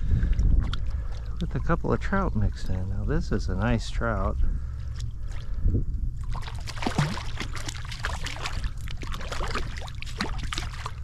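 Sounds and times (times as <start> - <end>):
water splashing and sloshing: 0.0 - 11.0
wind rumbling on microphone: 0.0 - 11.0.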